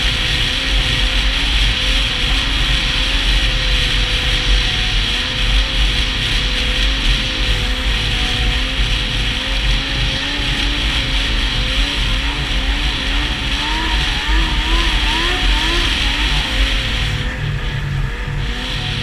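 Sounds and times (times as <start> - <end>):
snowmobile engine revving: 0.0 - 19.0
track and wind hissing: 0.0 - 19.0.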